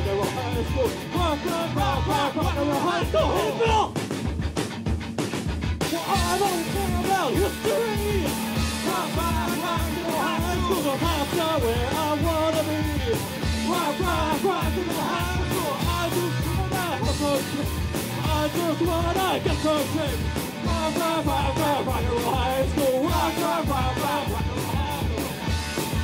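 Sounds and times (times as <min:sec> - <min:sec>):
person singing: 0:00.0 - 0:03.9, 0:05.9 - 0:25.4
live punk rock band: 0:00.0 - 0:26.0
steady driving drum beat: 0:00.0 - 0:26.0.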